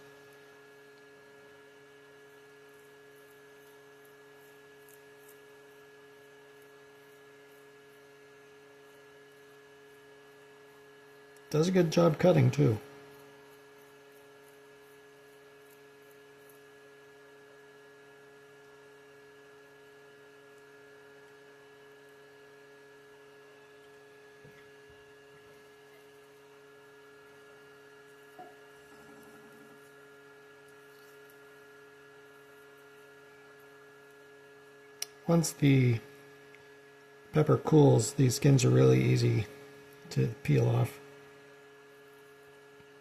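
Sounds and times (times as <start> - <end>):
battery charger fan hum: 0.0 - 43.0.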